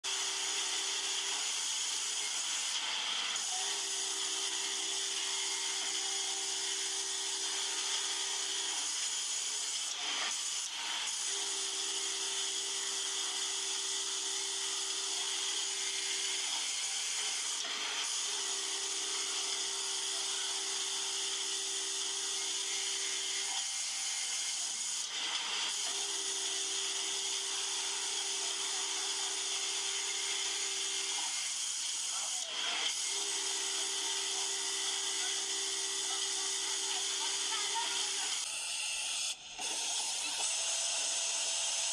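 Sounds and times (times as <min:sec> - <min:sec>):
industrial sewing machine running: 0:00.0 - 0:41.9.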